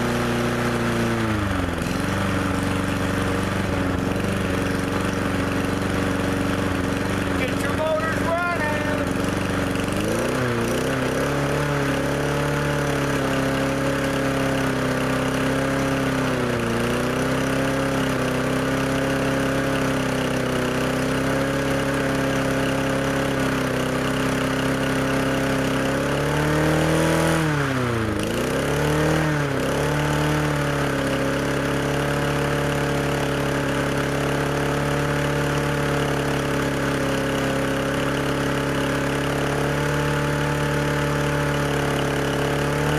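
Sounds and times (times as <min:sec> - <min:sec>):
lawnmower engine running: 0:00.0 - 0:42.9.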